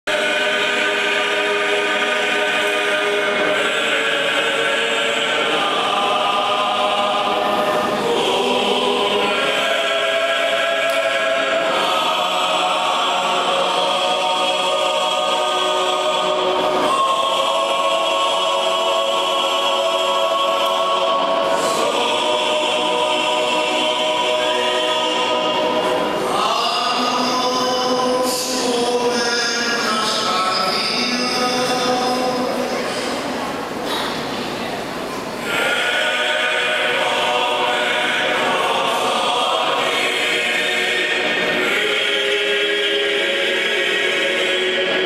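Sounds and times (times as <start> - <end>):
choir singing long notes: 0.0 - 45.0.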